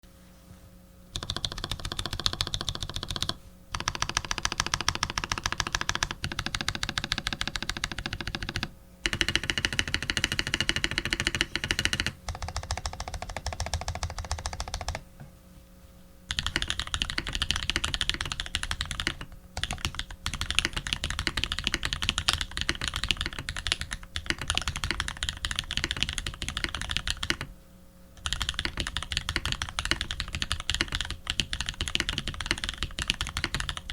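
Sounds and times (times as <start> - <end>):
mechanical keyboard typing: 1.2 - 15.0, 16.3 - 27.5, 28.2 - 33.9.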